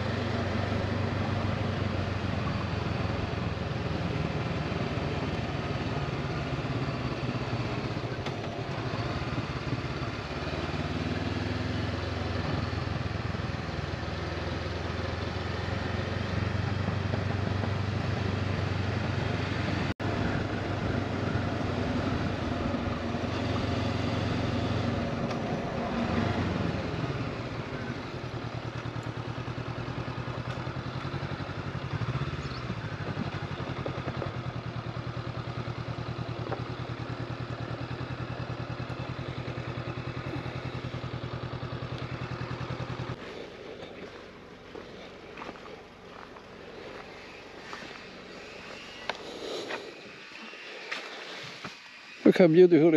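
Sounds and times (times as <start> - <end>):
motorcycle engine running: 0.0 - 52.9
wind and road rush: 0.0 - 52.9.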